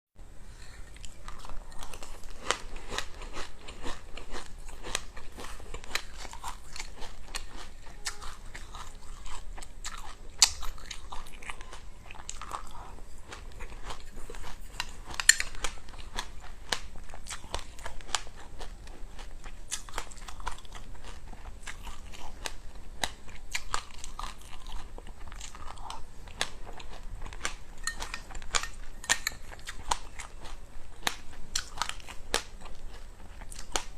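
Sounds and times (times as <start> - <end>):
chewing and crunching seeds: 0.6 - 33.9.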